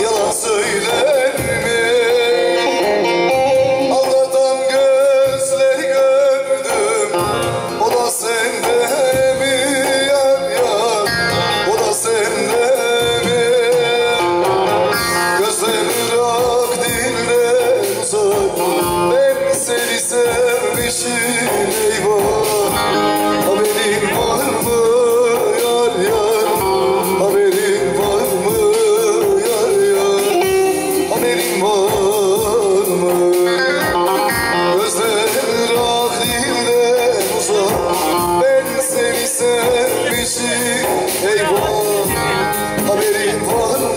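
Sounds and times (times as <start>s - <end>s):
man singing ornamented melody: 0.0s - 43.9s.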